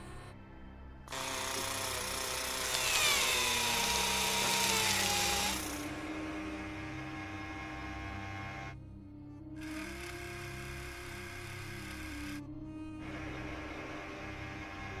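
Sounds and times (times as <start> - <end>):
whirring drill-like machine: 1.1 - 8.8, 9.6 - 12.4, 13.0 - 15.0.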